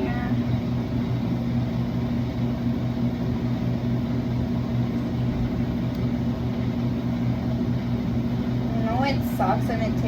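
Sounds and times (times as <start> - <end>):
vending machine electrical hum: 0.0 - 10.0.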